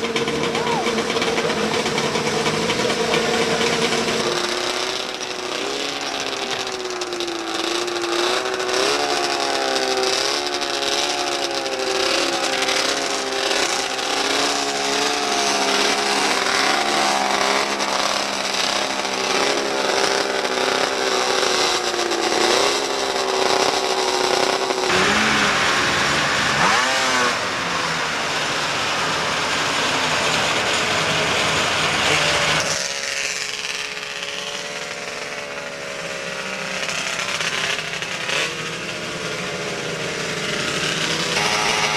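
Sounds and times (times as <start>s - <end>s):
harsh noisy engine rev: 0.0s - 41.9s
snowmobile engines revving: 0.0s - 41.9s.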